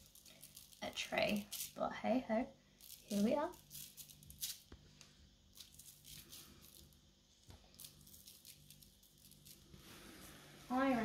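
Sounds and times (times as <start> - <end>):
sugar sprinkled onto biscuits: 0.0 - 11.0.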